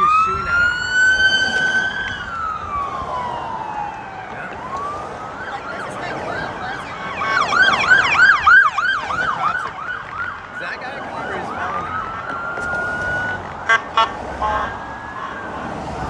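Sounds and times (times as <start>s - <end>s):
police siren wailing and yelping: 0.0s - 16.0s.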